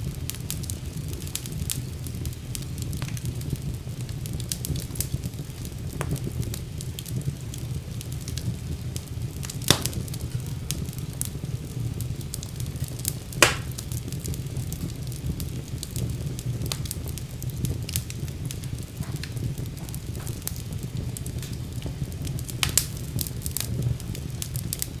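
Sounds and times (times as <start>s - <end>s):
fire crackling in fireplace: 0.0s - 25.0s
sharp pops of fire: 0.0s - 25.0s.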